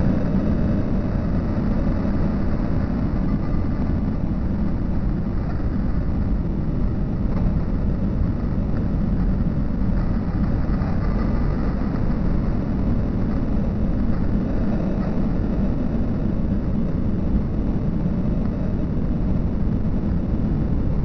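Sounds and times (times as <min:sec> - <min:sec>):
low rumble of city noise: 0:00.0 - 0:21.0.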